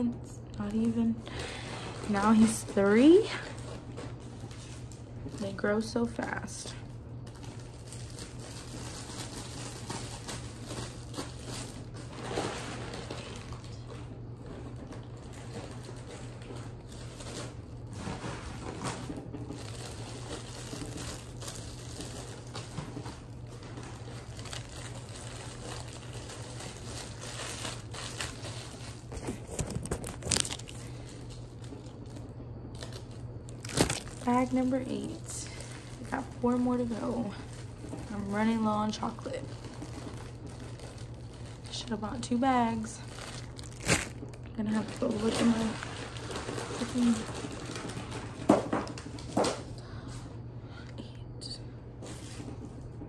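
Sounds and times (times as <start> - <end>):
candy wrappers rustling: 0.0 - 50.3.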